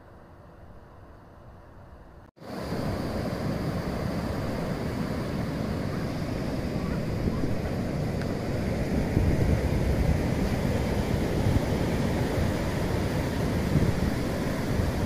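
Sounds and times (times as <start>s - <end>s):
wind rumbling on microphone: 2.0s - 15.0s
ocean surf: 2.4s - 15.0s.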